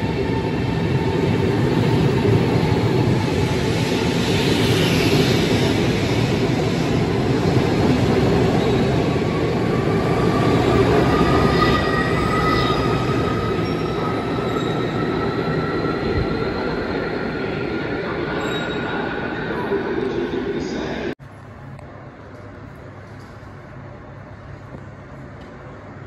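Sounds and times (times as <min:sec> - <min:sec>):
train running on rails: 0:00.0 - 0:26.0.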